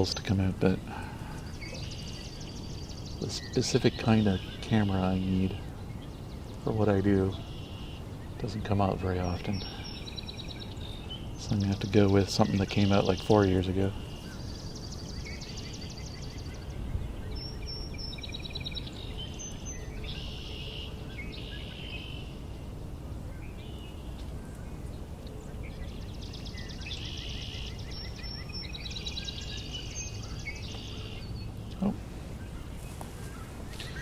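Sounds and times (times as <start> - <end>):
songbirds singing: 0.0 - 34.0.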